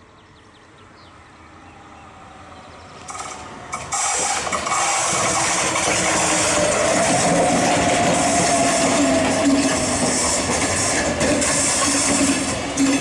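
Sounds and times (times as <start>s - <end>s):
train rumble: 1.8s - 13.0s.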